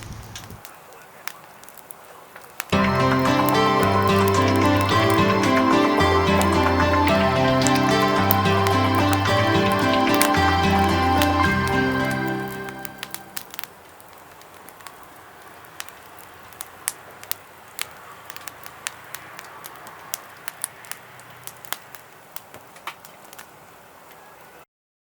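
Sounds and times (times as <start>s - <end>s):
fire hissing: 0.0s - 24.5s
wood fire crackling: 0.0s - 24.6s.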